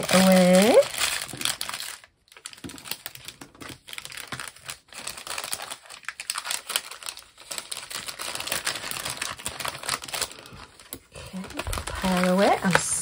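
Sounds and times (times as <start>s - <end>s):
cellophane crinkling: 0.0s - 13.0s.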